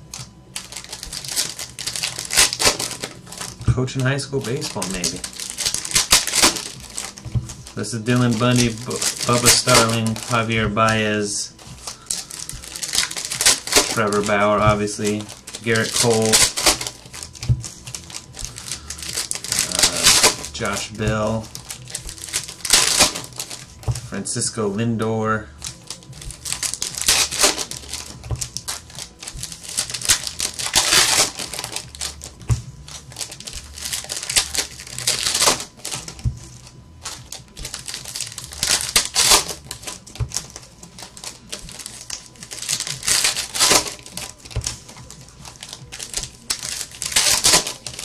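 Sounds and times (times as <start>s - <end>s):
cards clicking and rustling: 0.0s - 24.2s, 25.5s - 48.0s
wrappers crinkling: 0.0s - 24.8s, 25.4s - 48.0s.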